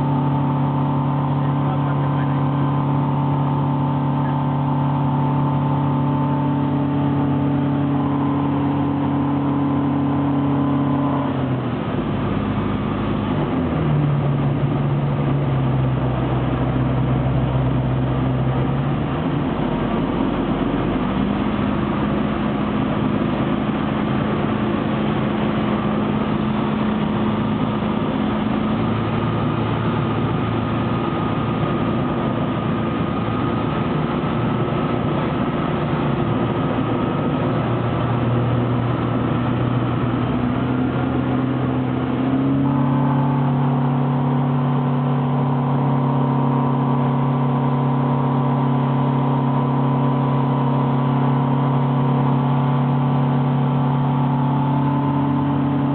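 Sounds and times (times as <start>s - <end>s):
aircraft engine and propeller droning: 0.0s - 55.9s.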